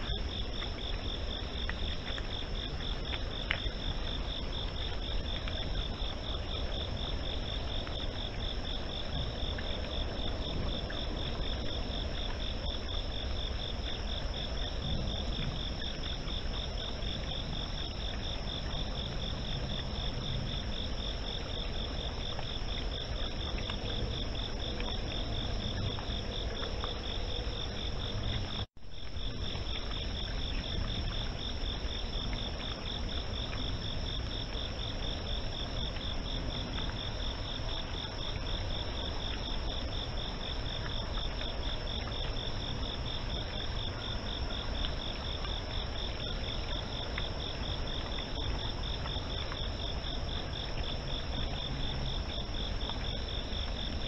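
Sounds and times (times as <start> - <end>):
high steady insect tone: 0.0 - 54.0.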